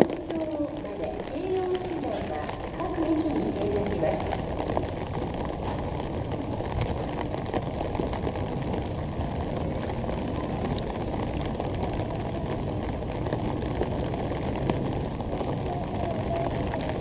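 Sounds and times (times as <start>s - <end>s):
low rumble with hiss: 0.1s - 17.0s.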